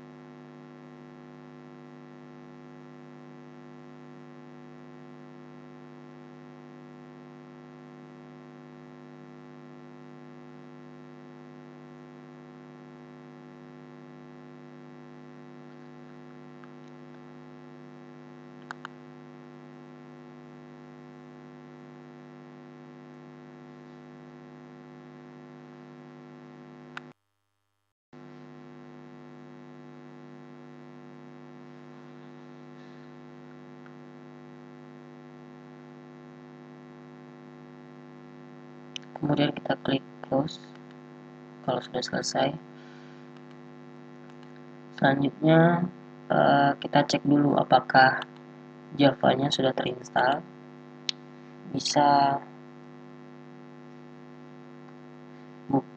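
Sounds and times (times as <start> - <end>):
electrical mains hum: 0.0 - 27.2, 28.2 - 55.9.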